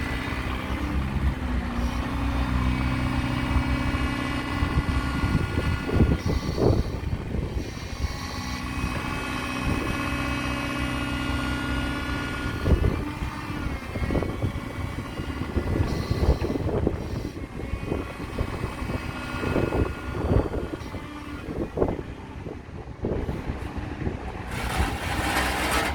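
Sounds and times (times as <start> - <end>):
diesel engine running: 0.0 - 25.9
hydraulic whine: 0.0 - 25.9.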